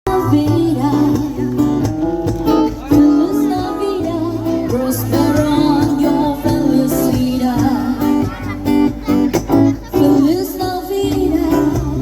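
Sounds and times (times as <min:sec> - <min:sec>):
girl singing: 0:00.1 - 0:01.8, 0:02.8 - 0:12.0
guitar-led backing music: 0:00.1 - 0:12.0.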